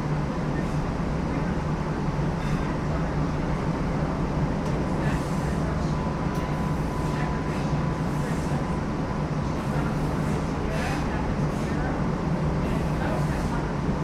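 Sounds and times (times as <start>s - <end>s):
streetcar hum and rumble: 0.0s - 14.0s.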